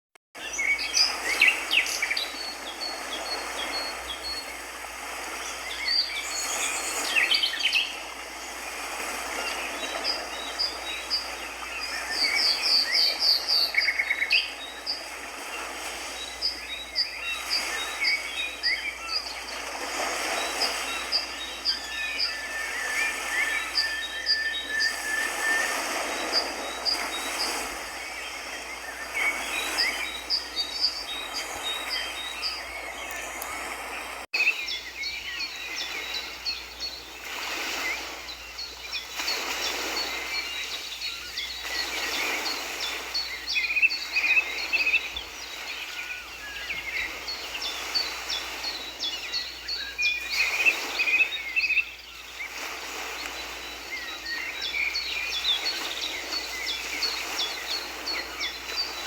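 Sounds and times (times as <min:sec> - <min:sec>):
small birds chirping: 0:00.4 - 0:59.0.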